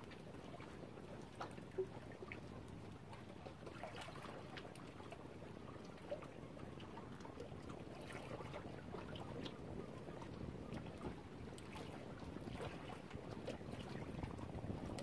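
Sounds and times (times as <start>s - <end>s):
small water splashes: 0.0s - 15.0s
small waves lapping: 0.0s - 15.0s.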